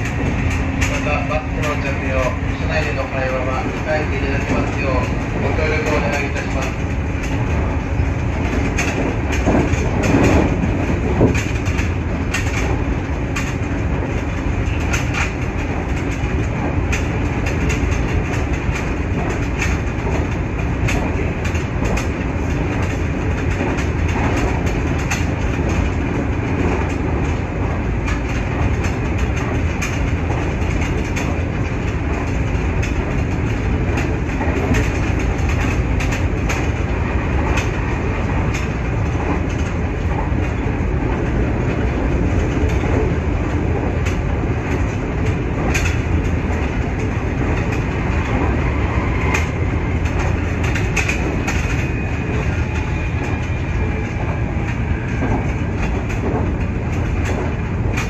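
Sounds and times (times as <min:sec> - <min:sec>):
clicks over rail joints: 0:00.0 - 0:58.0
train wheels rumbling on rail: 0:00.0 - 0:58.0.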